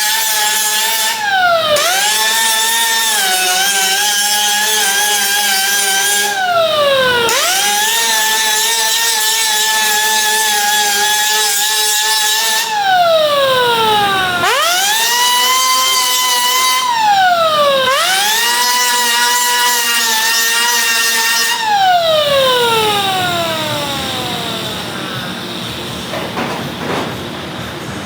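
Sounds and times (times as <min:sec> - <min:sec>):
power tool motor whining: 0:00.0 - 0:27.5.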